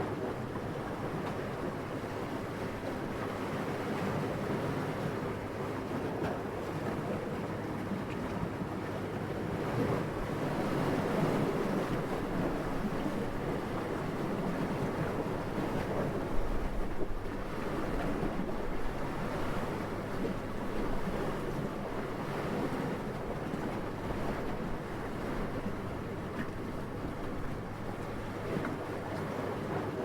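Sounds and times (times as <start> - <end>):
gentle wind: 0.0 - 30.0.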